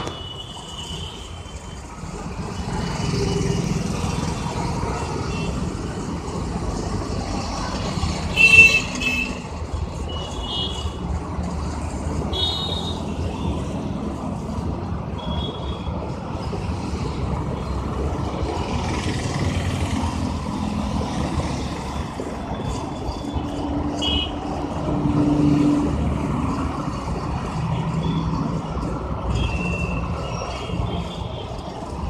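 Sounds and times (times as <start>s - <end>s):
road traffic: 0.0s - 32.0s.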